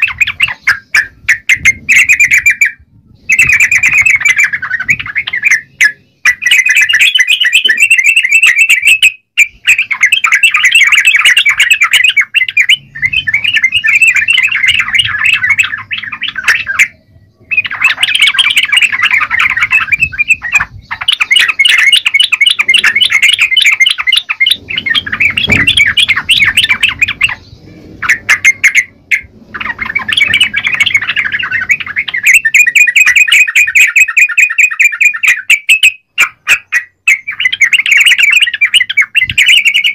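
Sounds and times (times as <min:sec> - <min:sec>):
bulbul singing chattering phrases: 0:00.0 - 0:39.9.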